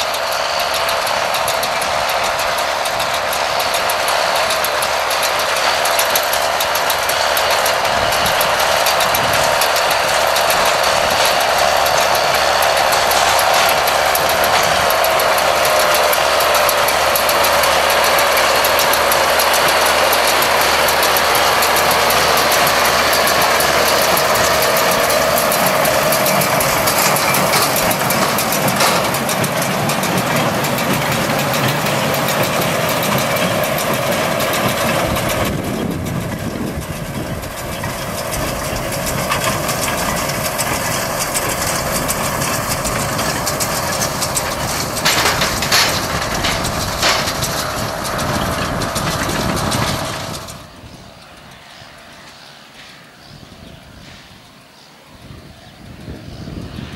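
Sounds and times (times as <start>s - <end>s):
square baler working: 0.0s - 56.9s
tractor diesel engine running: 0.0s - 56.9s.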